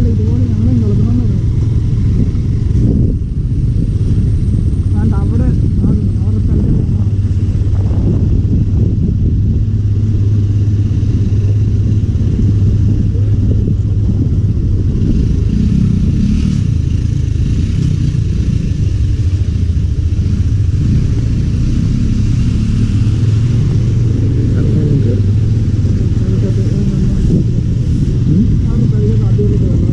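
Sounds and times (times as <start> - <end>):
engine droning steadily: 0.0 - 29.9.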